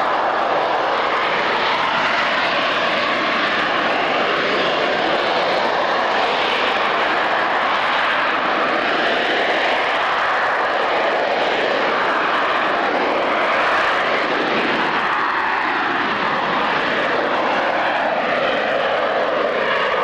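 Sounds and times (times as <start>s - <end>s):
jet roar flying past: 0.0s - 20.0s.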